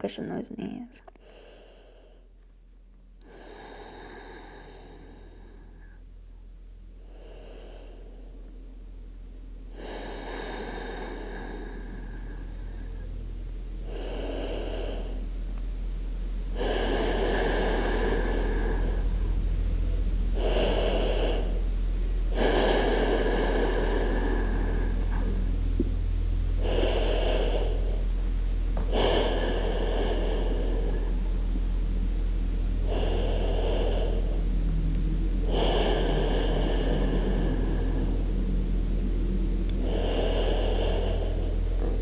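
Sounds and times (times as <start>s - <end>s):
steady low hum: 0.0s - 42.0s
person breathing deeply: 1.2s - 2.4s, 3.2s - 42.0s.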